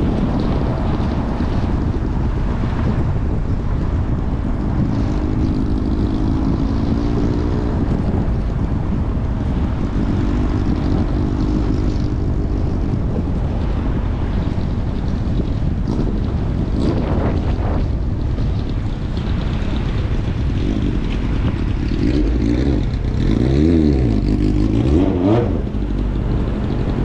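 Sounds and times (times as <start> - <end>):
car road rumble: 0.0 - 27.0.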